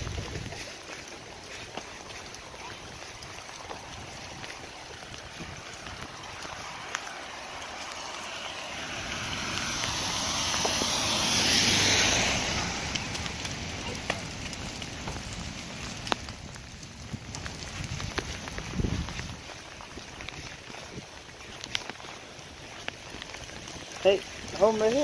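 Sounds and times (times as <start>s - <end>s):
car tyres hissing on wet road: 0.0s - 25.0s
rain: 0.0s - 25.0s.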